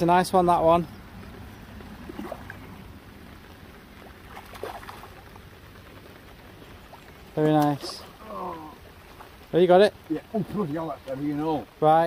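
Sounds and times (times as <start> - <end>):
faint water splashes: 0.0 - 12.0
rain on umbrella and water: 0.0 - 12.0.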